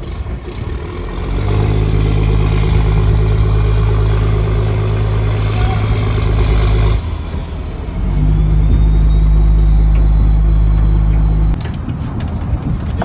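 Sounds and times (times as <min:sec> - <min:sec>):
boat engine deep hum: 0:00.0 - 0:13.0.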